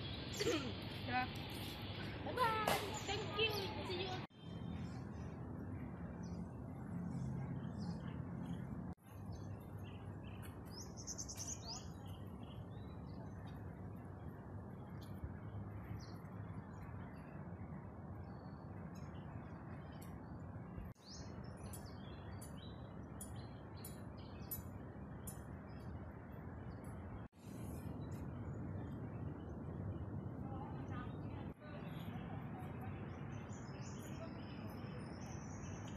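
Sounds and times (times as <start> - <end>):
low city hum: 0.0 - 35.9
small birds chirping: 0.0 - 35.9.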